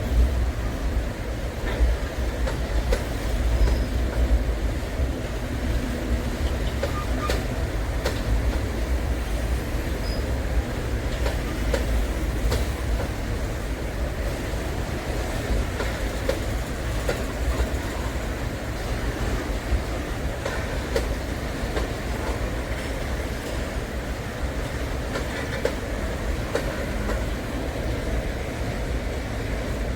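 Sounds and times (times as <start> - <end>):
freight train rumbling over bridge: 0.0 - 29.9
train wheels clicking and knocking: 0.1 - 29.9.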